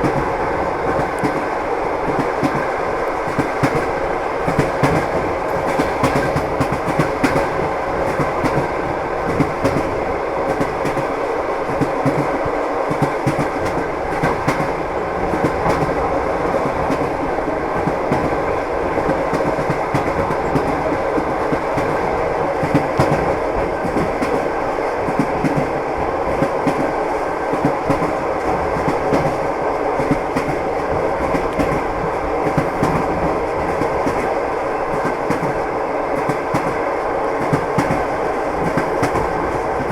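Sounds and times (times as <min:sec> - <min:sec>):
train wheels clattering: 0:00.0 - 0:36.8, 0:37.4 - 0:39.9.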